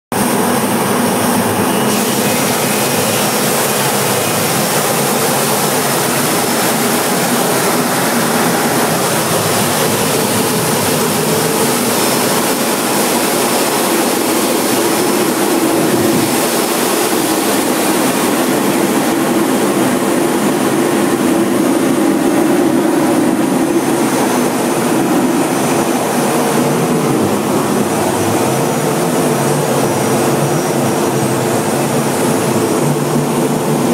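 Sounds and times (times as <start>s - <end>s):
jet engine: 0.1s - 33.9s
air rushing over canopy: 0.2s - 33.9s.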